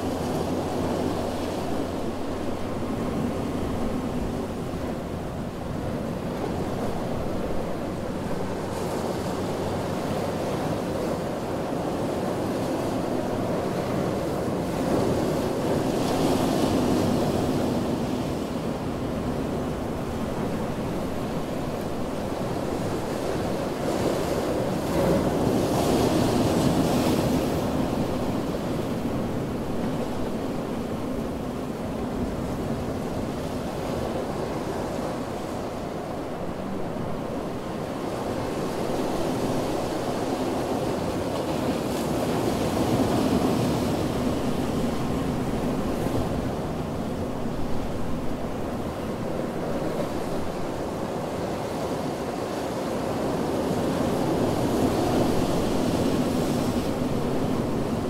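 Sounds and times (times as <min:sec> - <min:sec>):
waves washing onto beach: 0:00.0 - 0:58.0.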